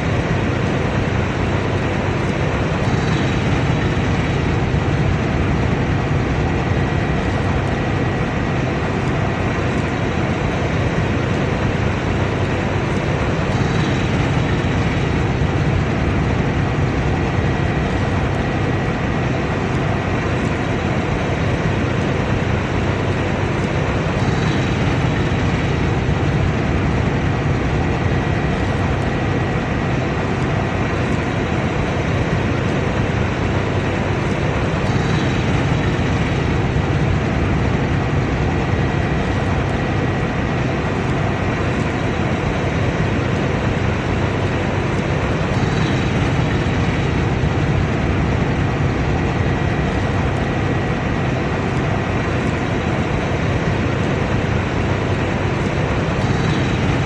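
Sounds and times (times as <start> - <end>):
combine harvester drone: 0.0 - 57.0
faint mechanical whine: 0.0 - 57.0.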